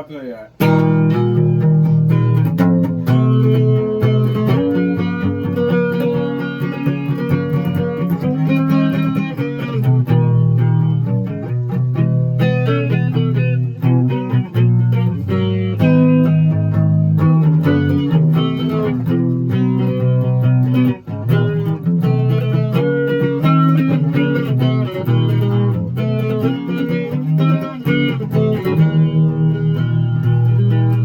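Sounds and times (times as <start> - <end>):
plucked guitar notes: 0.6 - 31.0.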